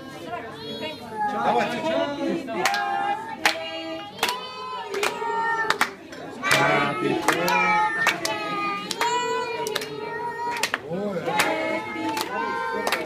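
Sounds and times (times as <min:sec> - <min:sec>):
group singing: 0:01.3 - 0:13.0
people clapping along: 0:02.5 - 0:13.0.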